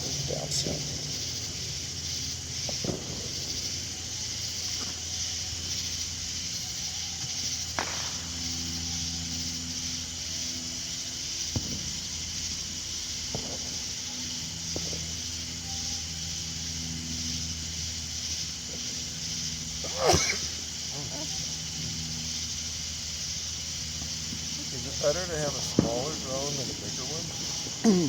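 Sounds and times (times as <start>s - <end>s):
high hiss: 0.0s - 28.0s.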